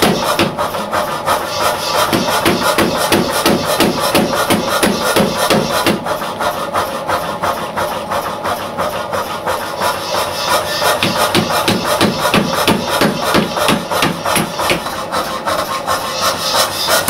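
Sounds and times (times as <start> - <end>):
power hammer pounding steel: 0.0 - 17.0.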